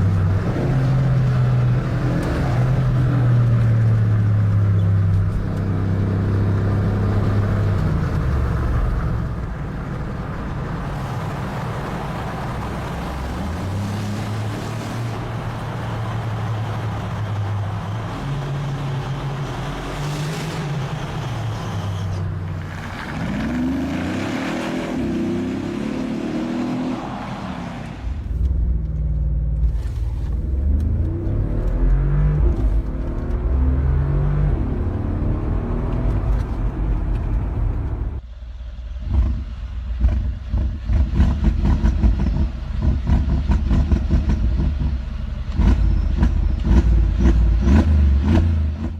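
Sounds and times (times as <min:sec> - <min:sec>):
car engine revving: 0:00.0 - 0:38.2, 0:38.9 - 0:48.9.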